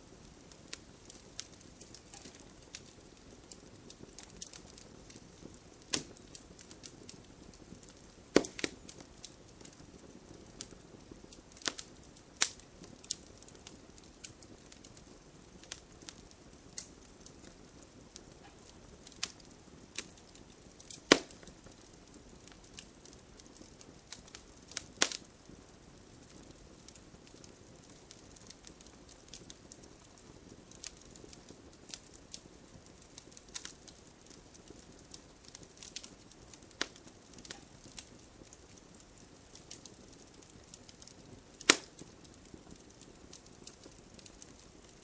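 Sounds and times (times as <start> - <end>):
faint steady hiss: 0.0 - 45.0
wood fire crackling: 0.0 - 45.0.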